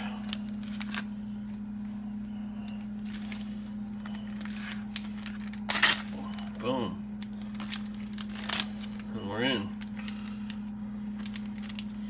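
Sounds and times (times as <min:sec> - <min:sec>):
plastic bag rustling: 0:00.0 - 0:01.7, 0:02.6 - 0:12.0
low hum: 0:00.0 - 0:12.0.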